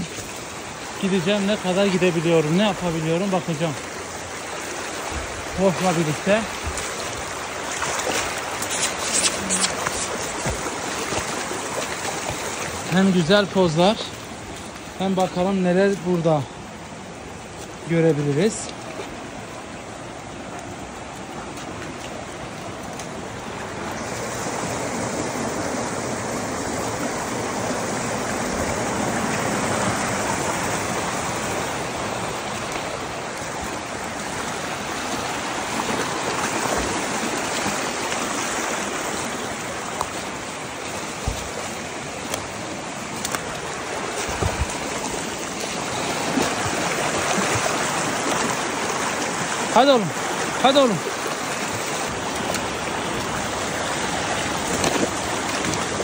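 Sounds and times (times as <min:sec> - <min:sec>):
creek rushing over stones: 0:00.0 - 0:56.0.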